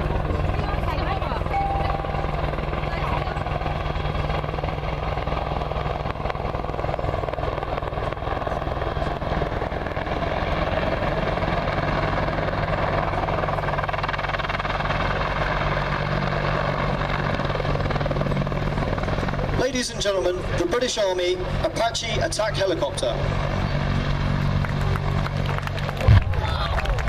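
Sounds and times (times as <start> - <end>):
helicopter rotor beat: 0.0 - 27.0
turbine engine whine: 0.0 - 27.0.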